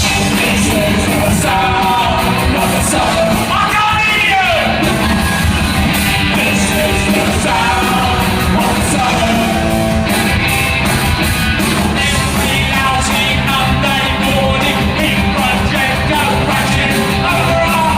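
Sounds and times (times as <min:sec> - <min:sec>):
vocals: 0:00.0 - 0:10.3, 0:11.7 - 0:17.9
punk rock band playing live: 0:00.0 - 0:17.9.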